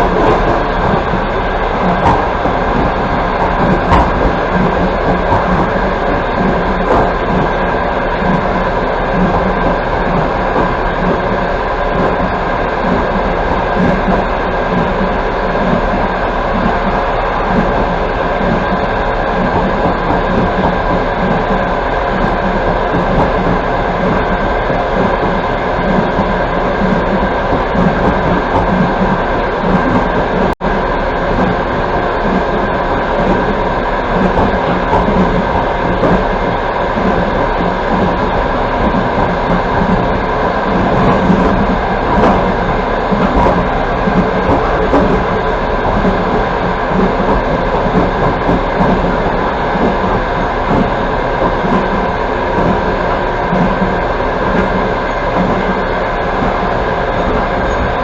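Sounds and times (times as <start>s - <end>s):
constant hum: 0.0s - 58.0s
train wheels rumbling on rails: 0.0s - 58.0s.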